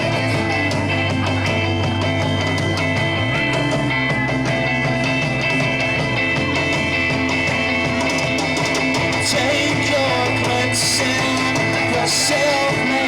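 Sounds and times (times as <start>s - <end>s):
electric guitar: 0.0s - 13.0s
live rock band playing: 0.0s - 13.0s.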